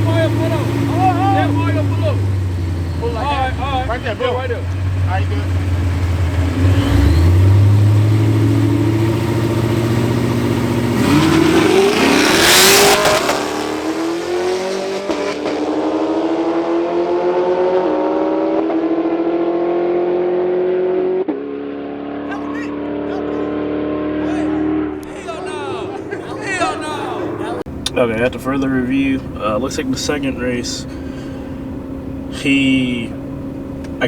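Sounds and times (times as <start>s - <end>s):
engine revving through gears: 0.0s - 27.7s
car engines rumbling: 0.0s - 34.0s.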